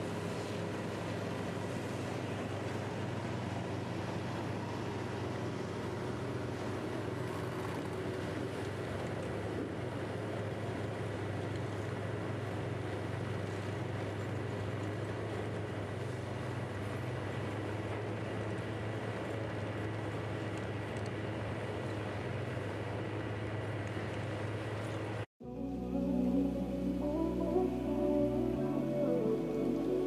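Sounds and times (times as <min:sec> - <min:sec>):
bulldozer diesel engine drone: 0:00.0 - 0:30.0.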